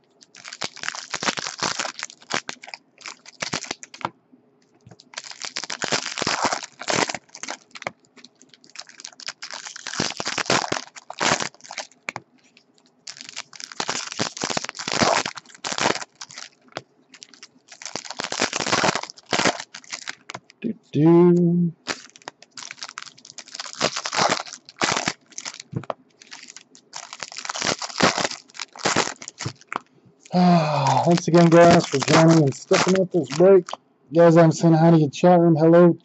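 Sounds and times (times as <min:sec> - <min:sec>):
foil wrappers crinkling: 0:00.0 - 0:04.1, 0:04.9 - 0:20.6, 0:21.8 - 0:34.4.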